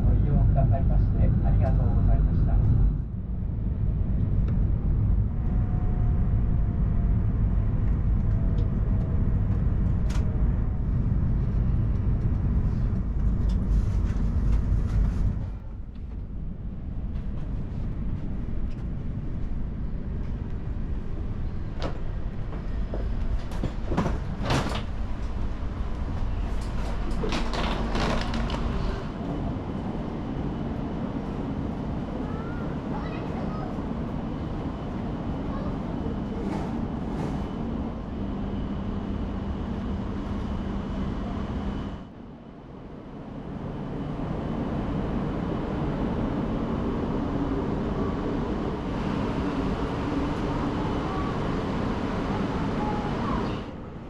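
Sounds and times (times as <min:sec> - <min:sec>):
train running with low rumble: 0:00.0 - 0:54.0.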